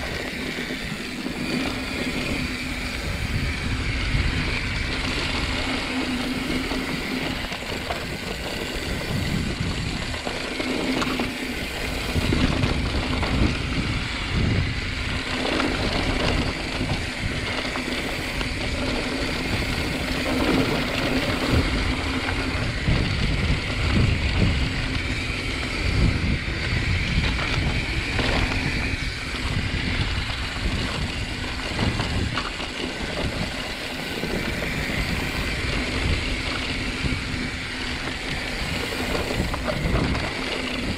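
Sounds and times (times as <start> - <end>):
bike jolts and rattles: 0.0 - 40.9
bike tyres on dirt trail: 0.0 - 40.9.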